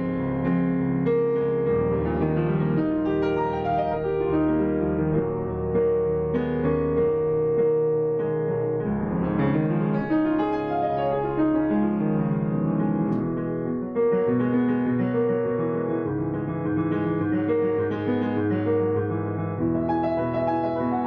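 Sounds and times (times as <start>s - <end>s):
piano playing: 0.0s - 21.0s.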